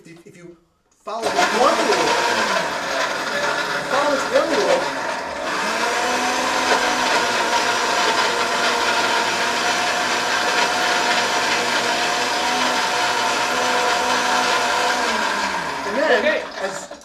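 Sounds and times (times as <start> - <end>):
blender motor whining: 1.2 - 17.0.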